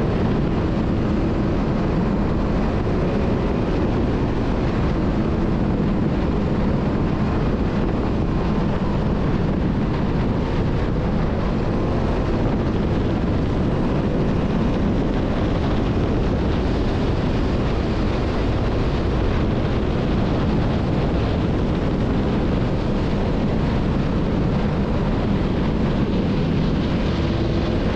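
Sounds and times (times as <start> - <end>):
jet ski engine rush: 0.0 - 27.9
wind blasting over microphone: 0.0 - 27.9.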